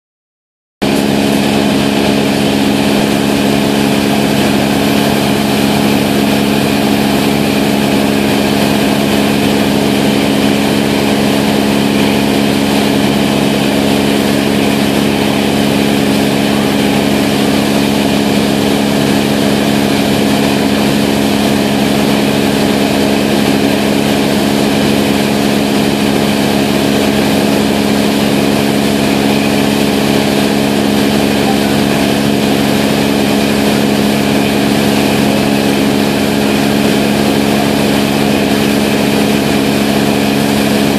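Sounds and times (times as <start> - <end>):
boat engine humming: 0.8 - 40.9.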